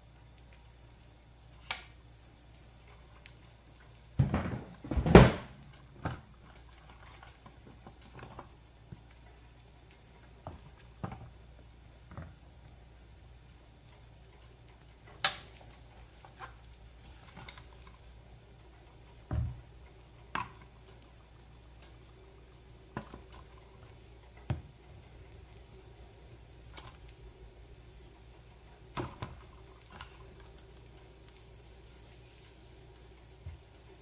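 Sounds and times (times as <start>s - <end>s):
faint low steady hum: 0.0s - 34.0s.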